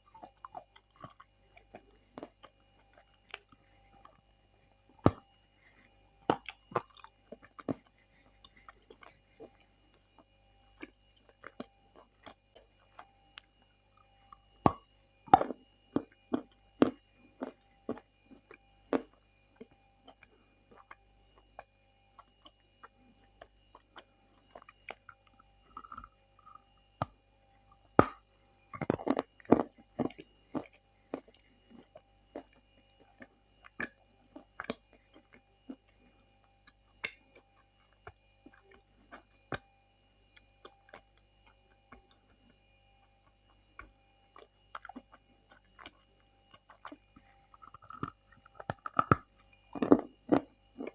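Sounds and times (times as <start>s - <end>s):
crunchy chewing of clay: 0.0s - 50.9s.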